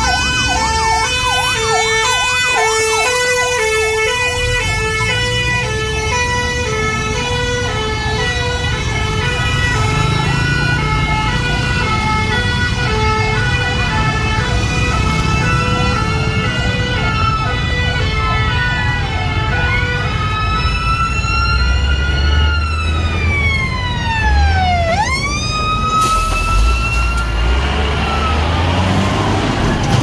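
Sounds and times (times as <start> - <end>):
diesel truck rumble: 0.0 - 30.0
fire engine siren: 0.0 - 30.0.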